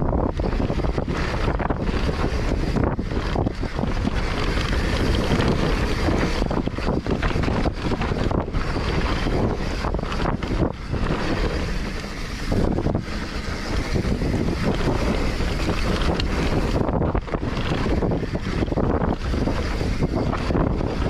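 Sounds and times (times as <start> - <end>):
bike tyres rumbling on dirt: 0.0 - 21.0
wind buffeting microphone: 0.0 - 21.0.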